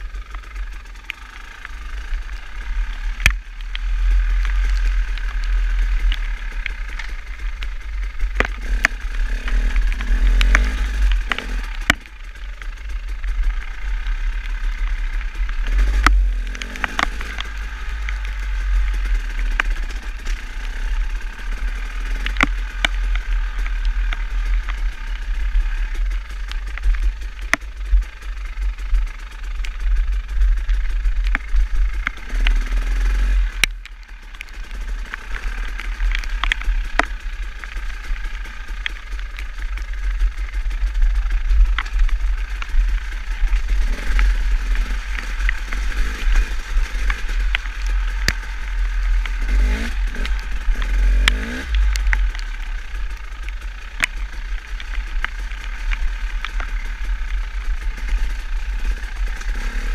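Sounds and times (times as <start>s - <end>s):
motorcycle engine running: 0.0s - 59.9s
sharp ticks: 0.0s - 59.9s.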